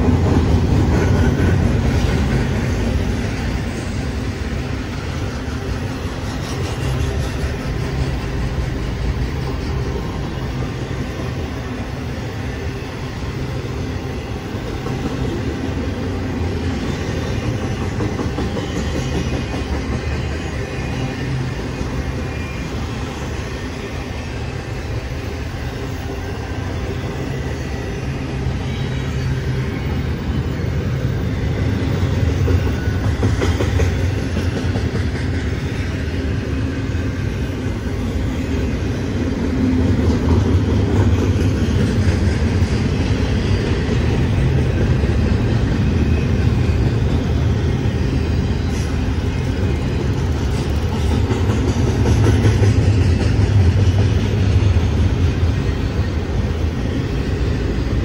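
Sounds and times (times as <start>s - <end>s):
freight train rolling on rails: 0.0s - 58.0s.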